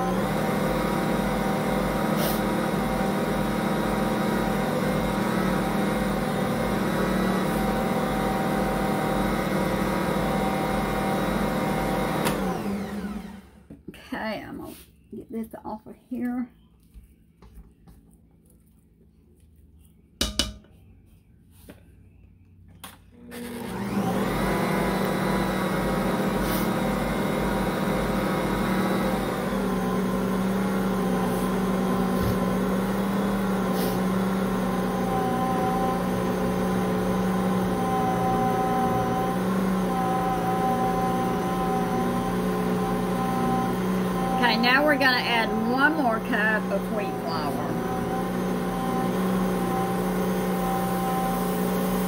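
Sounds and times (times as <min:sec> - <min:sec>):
stand mixer motor humming: 0:00.0 - 0:13.6, 0:23.2 - 0:52.0.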